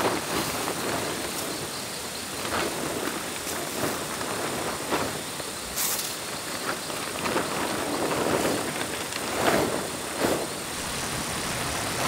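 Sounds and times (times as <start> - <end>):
plastic tarpaulin rustling: 0.0 - 12.0.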